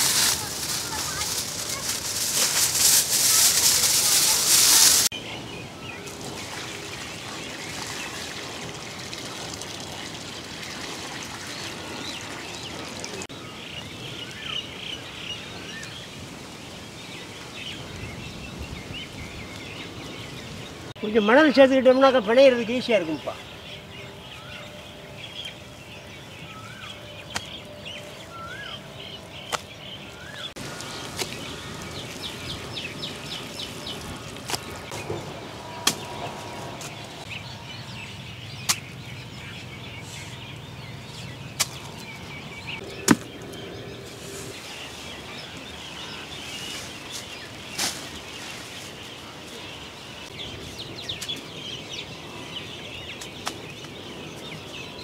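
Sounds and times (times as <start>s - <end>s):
birds chirping and singing: 9.8s - 55.0s.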